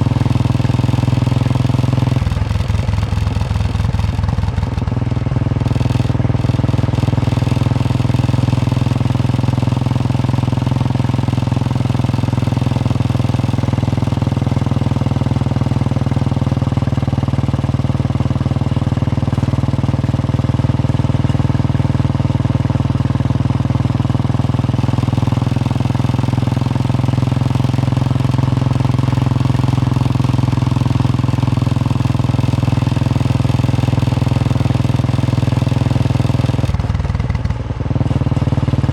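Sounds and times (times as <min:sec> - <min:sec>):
single-cylinder motorcycle engine: 0:00.0 - 0:38.9.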